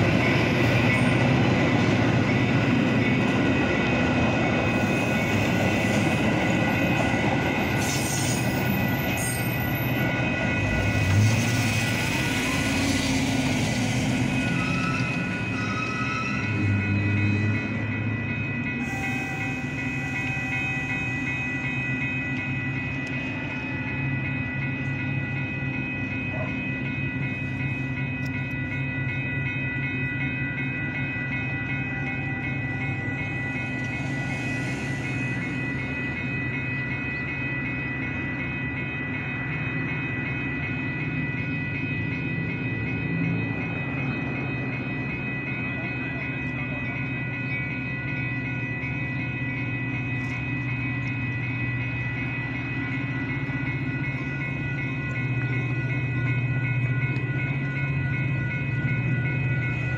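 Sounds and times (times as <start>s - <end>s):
railroad crossing bell ringing: 0.0s - 59.9s
train rumbling: 0.0s - 59.9s.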